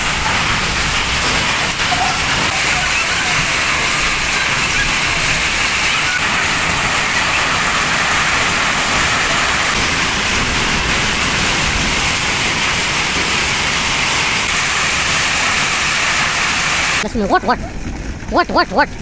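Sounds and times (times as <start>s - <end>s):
heavy hail falling: 0.0s - 17.1s.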